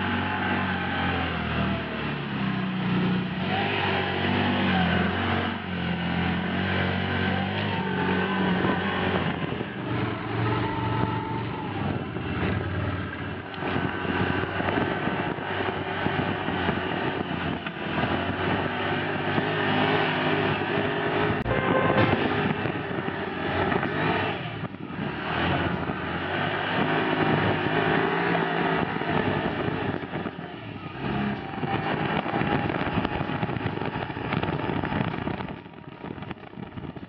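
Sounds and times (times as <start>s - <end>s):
off-road vehicle engine revving: 0.0s - 37.0s
rough road noise: 0.0s - 37.0s.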